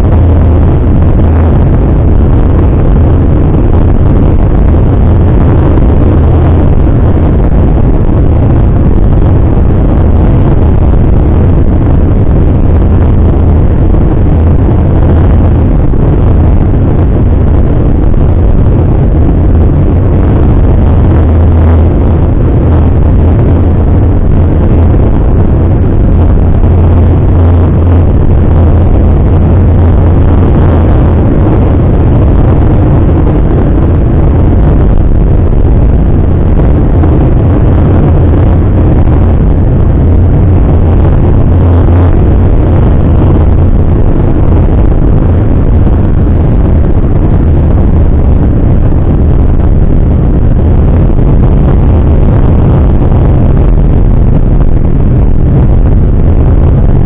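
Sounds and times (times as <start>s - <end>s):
car engine and tyres drone: 0.0s - 57.0s.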